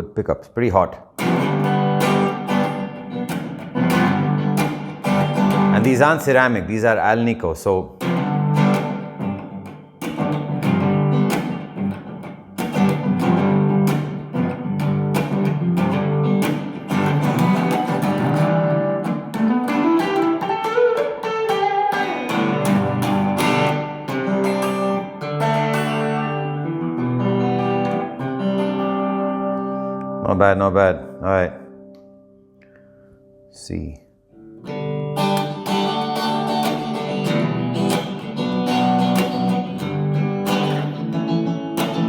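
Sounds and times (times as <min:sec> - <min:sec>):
electric guitar chords and notes: 0:01.1 - 0:33.5, 0:34.3 - 0:42.0.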